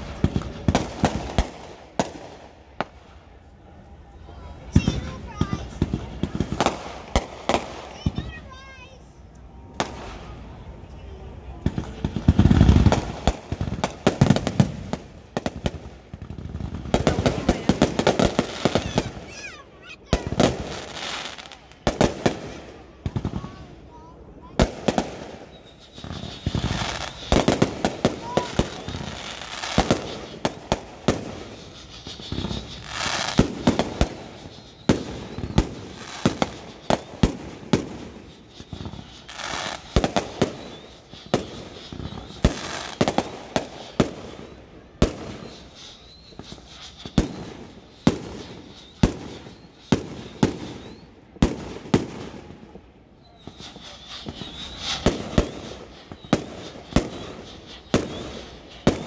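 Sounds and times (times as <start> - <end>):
firecrackers banging: 0.0 - 59.0
hissing crackle: 0.0 - 59.0.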